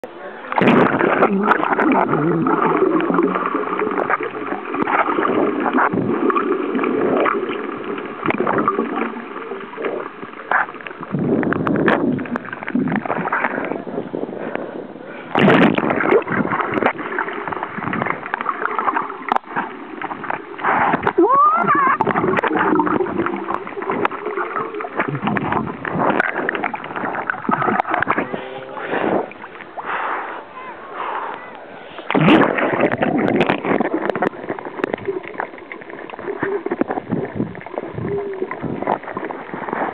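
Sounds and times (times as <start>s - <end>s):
underwater water sloshing: 0.0s - 39.9s.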